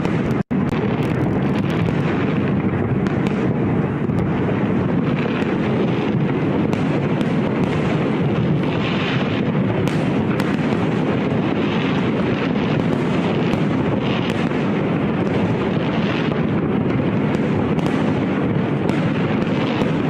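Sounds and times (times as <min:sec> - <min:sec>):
fireworks rumbling bursts: 0:00.0 - 0:20.0
fireworks sharp cracks and bangs: 0:00.0 - 0:20.0.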